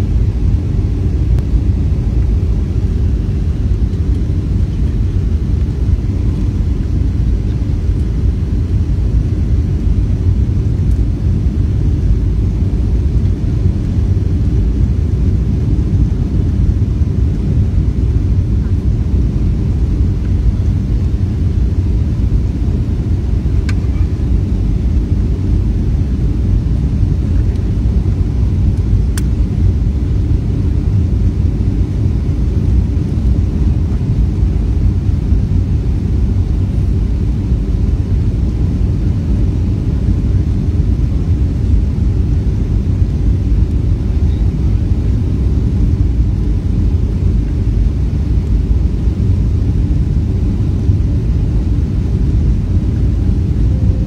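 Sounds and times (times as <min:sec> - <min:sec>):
jet engines rumbling in cabin: 0:00.0 - 0:54.0.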